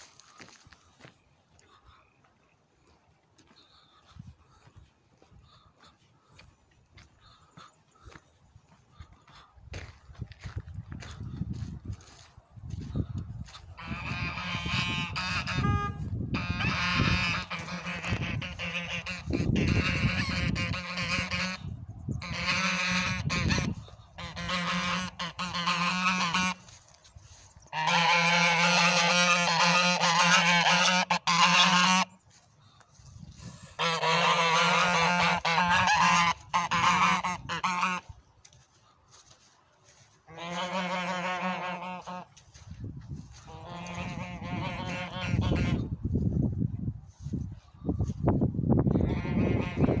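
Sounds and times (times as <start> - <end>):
waterfowl calling loudly: 0.0 - 46.0, 48.9 - 50.0.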